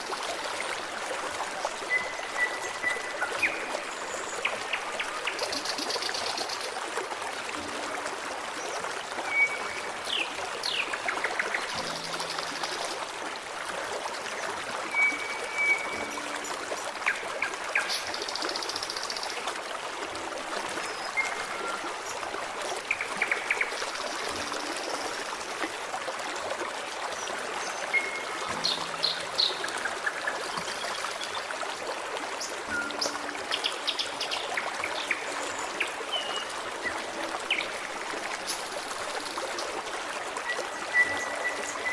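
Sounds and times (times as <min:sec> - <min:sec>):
stream trickling over rocks: 0:00.0 - 0:41.9.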